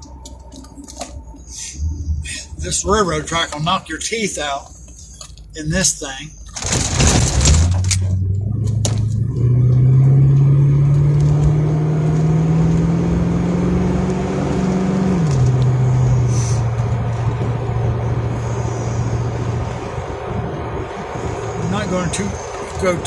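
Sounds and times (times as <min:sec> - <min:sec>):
vehicle engine accelerating: 0:00.0 - 0:03.8, 0:04.7 - 0:23.0.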